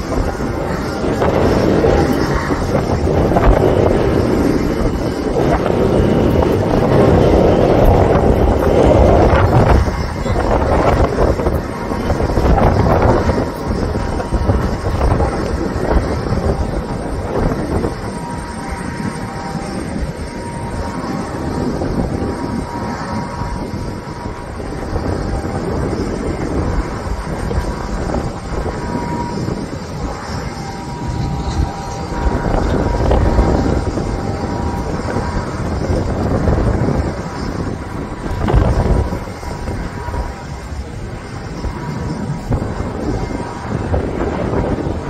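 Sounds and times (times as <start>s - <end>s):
jet airliner engines running: 0.0s - 45.0s.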